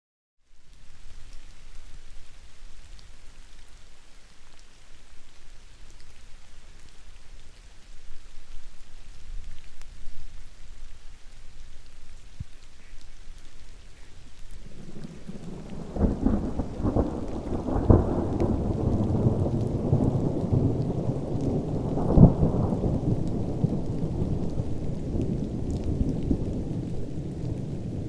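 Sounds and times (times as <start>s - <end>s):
raindrops ticking close by: 0.4s - 28.0s
steady rain: 0.4s - 28.0s.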